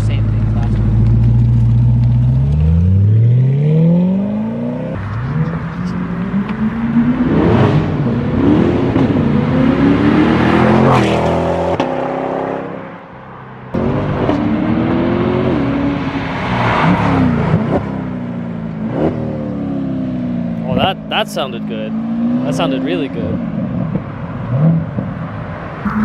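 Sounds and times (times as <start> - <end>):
sports car engine accelerating: 0.1 - 12.9, 13.7 - 26.0.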